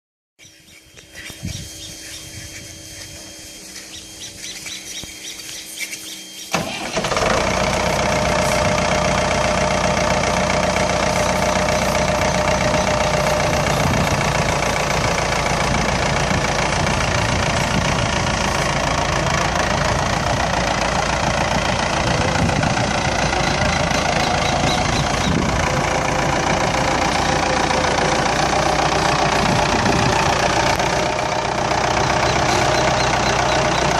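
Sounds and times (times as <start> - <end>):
tractor diesel engine starting: 6.4 - 33.9.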